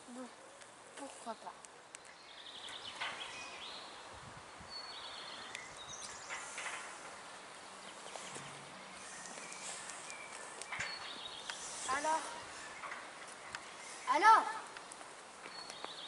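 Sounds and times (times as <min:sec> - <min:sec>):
background hiss: 0:00.0 - 0:16.0
birds chirping: 0:00.0 - 0:16.0.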